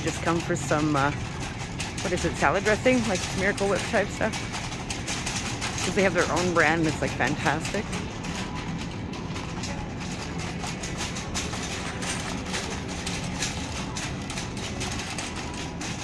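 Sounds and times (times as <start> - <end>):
shopping cart rolling on tiles: 0.0 - 16.0.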